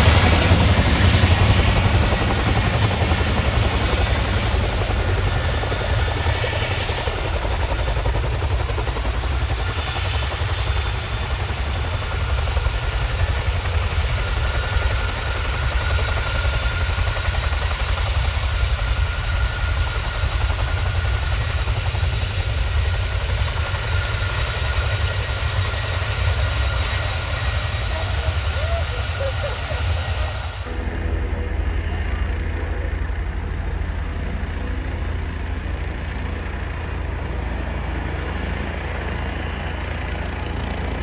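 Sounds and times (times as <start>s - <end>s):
helicopter rotor beat: 0.0s - 41.0s
high turbine whine: 0.0s - 41.0s.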